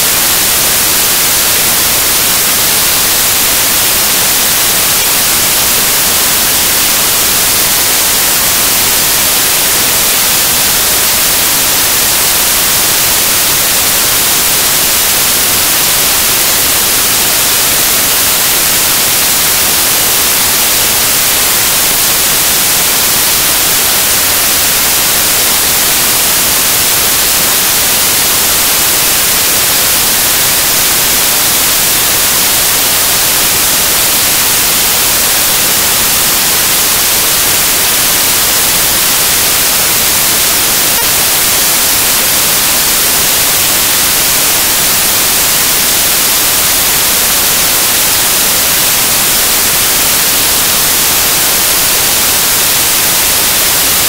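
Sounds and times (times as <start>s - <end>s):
loud static hiss: 0.0s - 54.0s.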